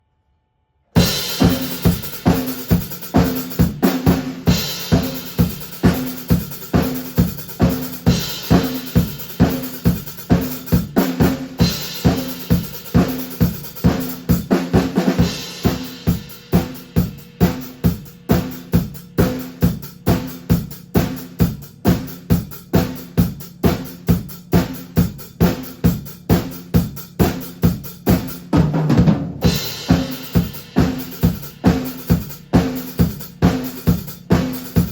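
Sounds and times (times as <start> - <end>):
drum kit groove: 1.0 - 34.9.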